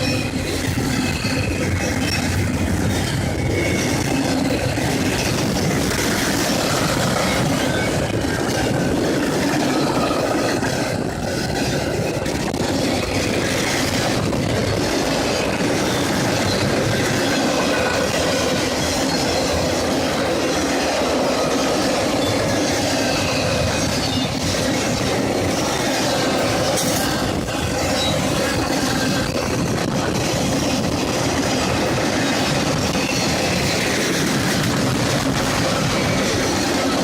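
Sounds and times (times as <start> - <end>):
freight train rumbling past: 0.0 - 37.0
wheels clicking over rail joints: 0.0 - 37.0.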